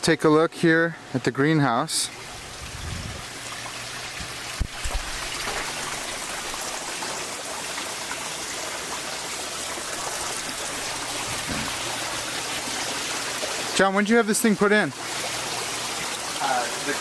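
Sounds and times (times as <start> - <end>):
water running and trickling: 2.0 - 17.0.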